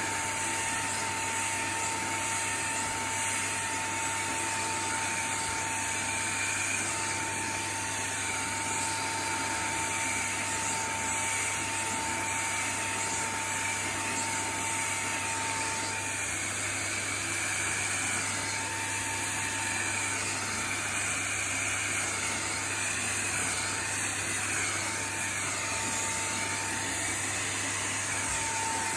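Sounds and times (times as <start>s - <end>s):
handheld vacuum cleaner whining: 0.0s - 28.9s.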